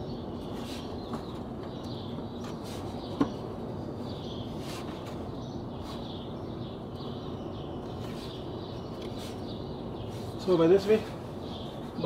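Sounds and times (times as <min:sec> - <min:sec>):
birds chirping: 0:00.0 - 0:12.0
steady background noise: 0:00.0 - 0:12.0.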